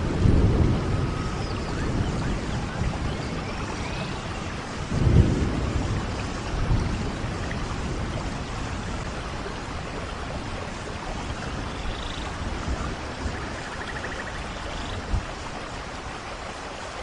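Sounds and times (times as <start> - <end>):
low thunder rumble: 0.0 - 16.1
steady rain falling: 0.0 - 17.0.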